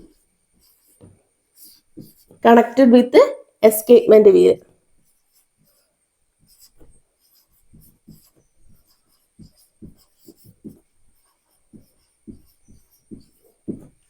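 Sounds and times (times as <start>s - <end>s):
handwriting strokes: 0.0s - 3.2s, 4.2s - 14.0s.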